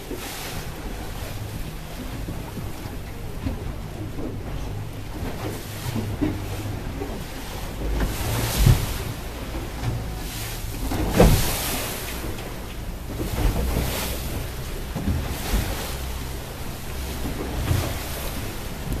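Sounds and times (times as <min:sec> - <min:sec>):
waves splashing: 0:00.0 - 0:19.0.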